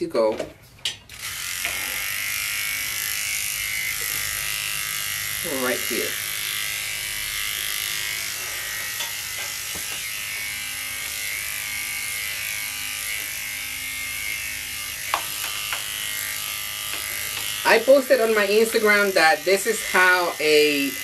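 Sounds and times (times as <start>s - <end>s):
electric clippers buzzing: 1.1s - 21.0s.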